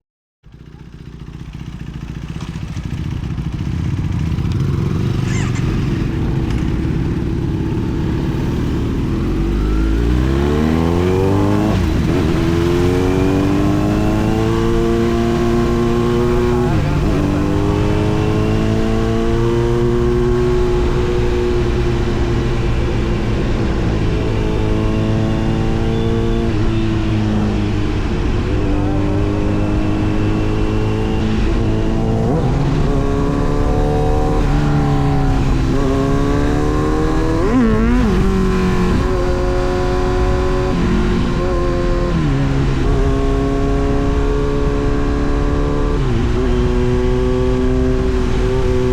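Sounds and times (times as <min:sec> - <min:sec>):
motorcycle engine accelerating: 0:00.4 - 0:48.9.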